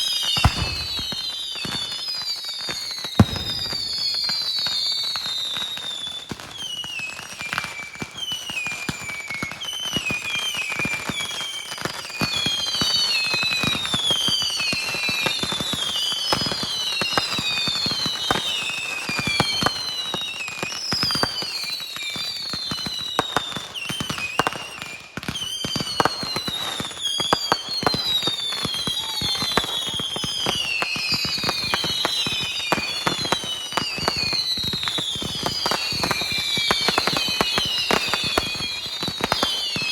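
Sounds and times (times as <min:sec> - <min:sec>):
fireworks bangs and crackles: 0:00.0 - 0:39.9
fireworks whistles falling in pitch: 0:00.0 - 0:39.9.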